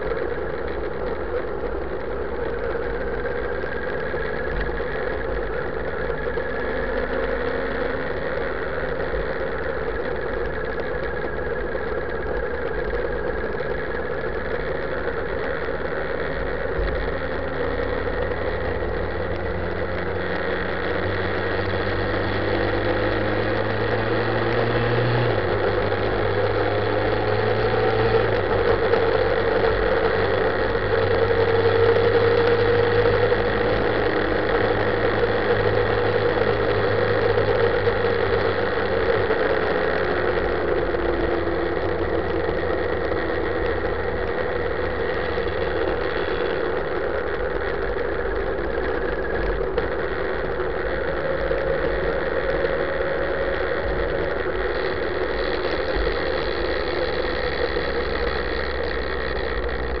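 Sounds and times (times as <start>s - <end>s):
motorcycle engine running: 0.0s - 60.0s
steady rush of noise: 0.0s - 60.0s.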